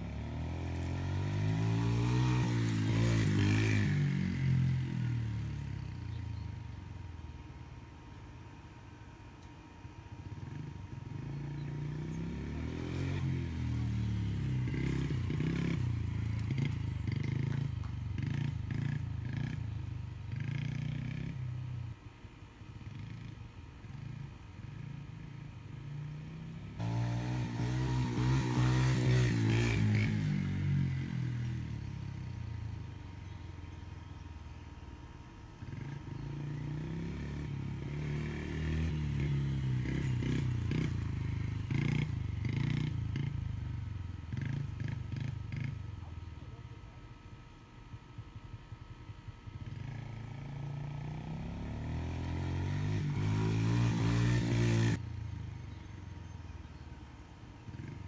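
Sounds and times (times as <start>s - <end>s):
small dirt bike engine: 0.0s - 8.9s, 9.9s - 58.0s.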